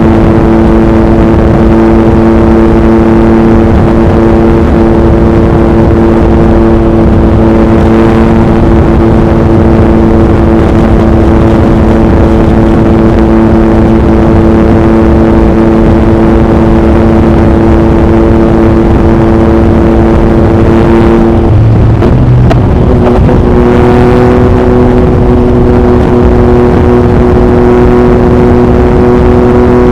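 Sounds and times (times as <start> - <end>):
motorcycle engine cruising: 0.0 - 29.9
wind buffeting on microphone: 0.0 - 29.9.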